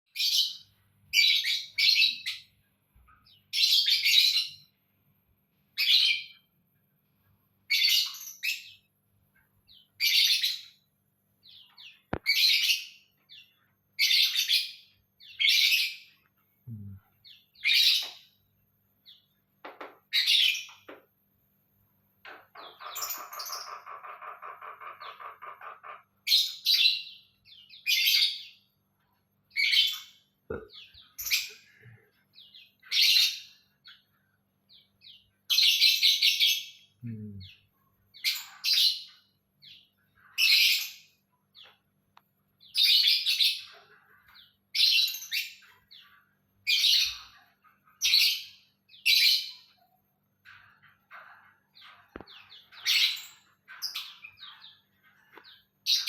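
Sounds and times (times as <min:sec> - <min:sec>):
songbird chirping: 0:00.1 - 0:04.9, 0:05.5 - 0:21.0, 0:21.8 - 0:56.0.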